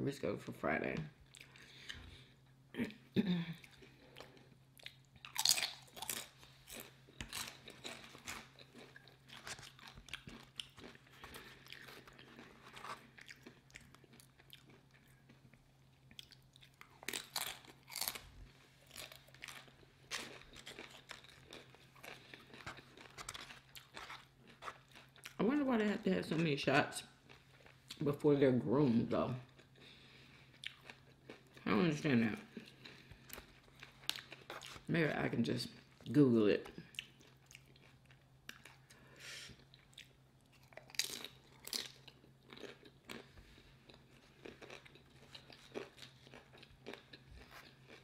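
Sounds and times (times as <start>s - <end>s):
crunching chewing of chips: 3.5s - 28.2s, 28.9s - 48.0s.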